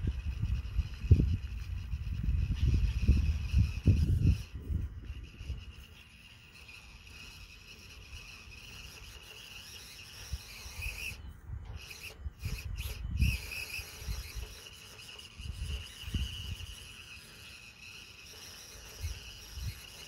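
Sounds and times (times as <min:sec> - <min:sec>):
small electric motor whining: 0:00.0 - 0:20.0
tyres scraping on rock: 0:00.0 - 0:20.0.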